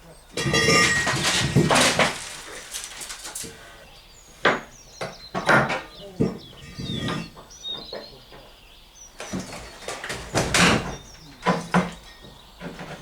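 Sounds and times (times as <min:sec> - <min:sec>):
objects knocking and clattering: 0:00.3 - 0:03.7, 0:04.5 - 0:08.1, 0:09.2 - 0:13.0.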